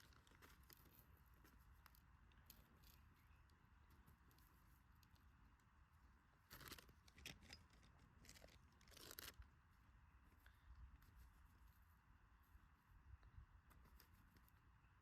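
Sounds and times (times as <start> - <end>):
faint crackles and crunches: 0.0 - 15.0.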